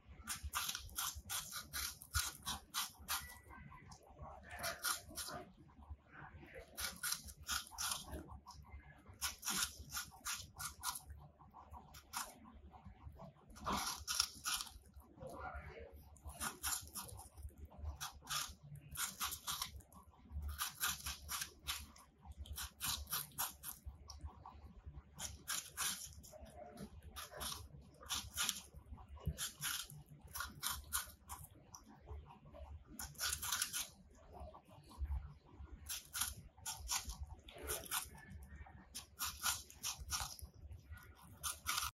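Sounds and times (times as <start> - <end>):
rabbits crunching apple: 0.0 - 42.0.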